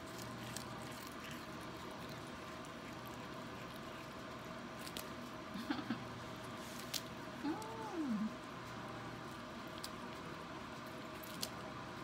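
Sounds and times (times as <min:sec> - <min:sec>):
cat chewing and tearing lettuce: 0:00.0 - 0:12.0
steady background hum: 0:00.0 - 0:12.0.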